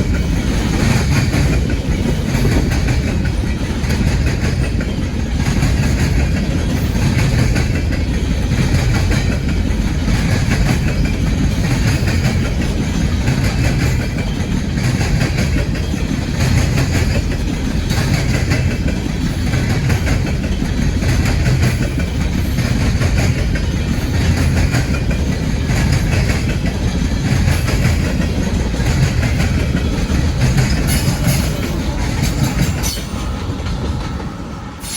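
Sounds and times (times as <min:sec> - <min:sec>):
freight train rolling past: 0:00.0 - 0:34.9
wheels clicking over rail joints: 0:00.0 - 0:34.9.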